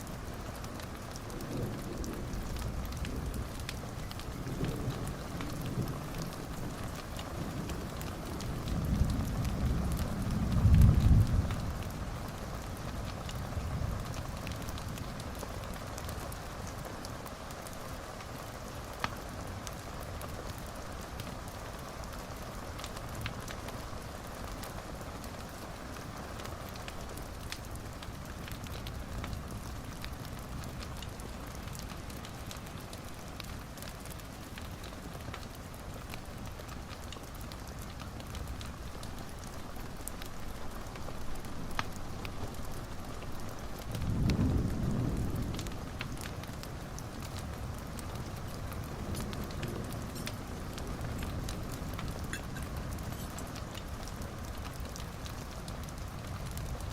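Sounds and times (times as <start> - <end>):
low rumble of flame: 0.0 - 56.9
wood fire crackling and popping: 0.0 - 56.9.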